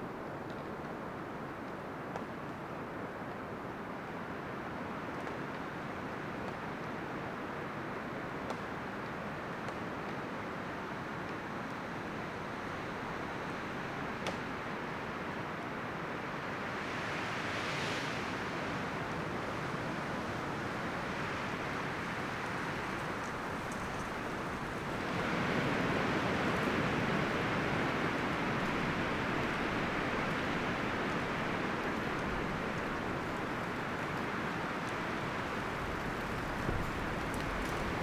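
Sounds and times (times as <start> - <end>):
wind rustling tree leaves: 0.0 - 38.0.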